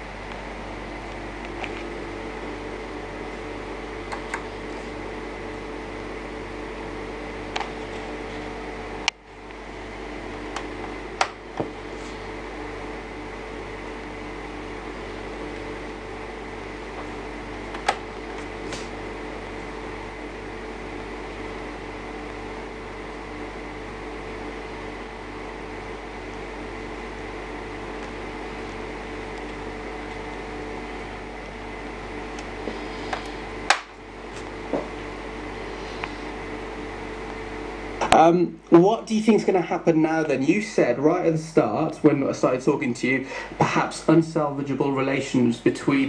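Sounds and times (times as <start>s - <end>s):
steady hum and hiss: 0.0s - 46.0s.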